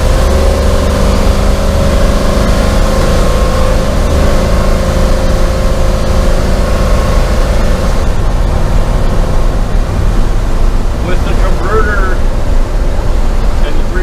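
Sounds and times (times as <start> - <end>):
engine and road rumble: 0.0 - 14.0
steady whine: 0.0 - 14.0.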